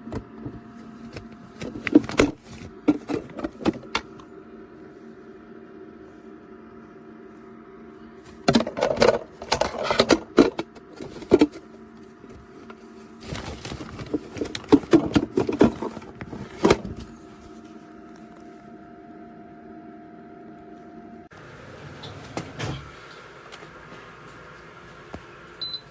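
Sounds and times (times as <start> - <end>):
dehumidifier humming: 0.0 - 25.9.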